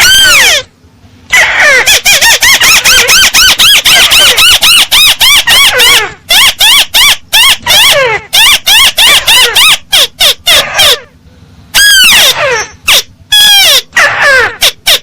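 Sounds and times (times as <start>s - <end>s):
crake calling: 0.0s - 0.7s, 1.3s - 15.0s.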